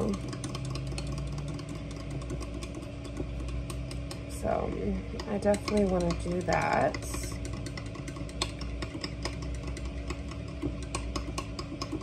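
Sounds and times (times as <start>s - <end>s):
kitchen items clicking and tapping: 0.0s - 12.0s
steady low hum: 0.0s - 12.0s.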